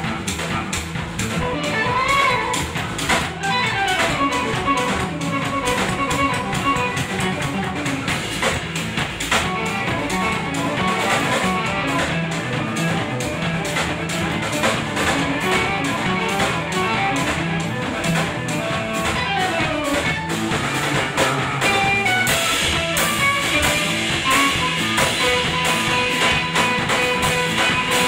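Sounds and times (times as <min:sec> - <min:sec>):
drum kit beat: 0:00.0 - 0:28.0
electric bass: 0:00.0 - 0:28.0
electric guitar: 0:00.0 - 0:28.0.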